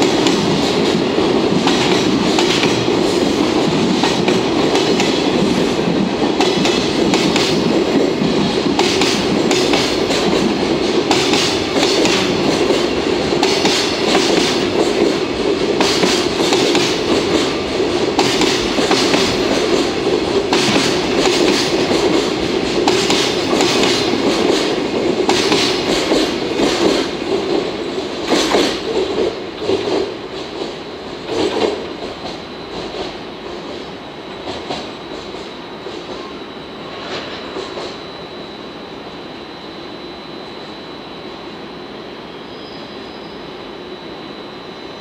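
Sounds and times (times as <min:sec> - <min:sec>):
train wheels clacking on rails: 0:00.0 - 0:38.2
train rumble: 0:00.0 - 0:40.9.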